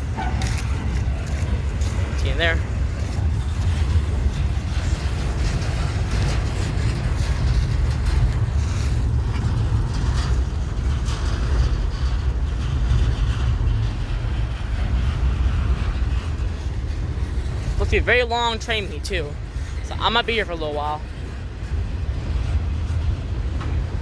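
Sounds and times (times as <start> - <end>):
freight train rumbling past: 0.0 - 24.0
wheels clicking on rail joints: 0.0 - 24.0.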